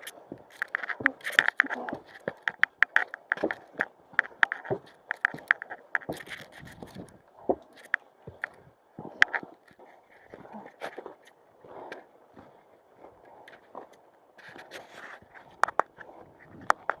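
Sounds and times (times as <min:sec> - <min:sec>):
footsteps on rock: 0:00.1 - 0:17.0.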